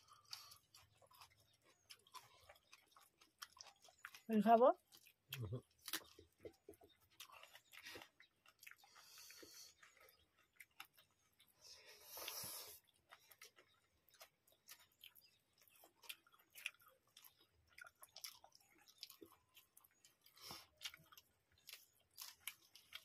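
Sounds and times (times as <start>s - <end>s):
chewing and wet mouth sounds: 0.0s - 23.0s.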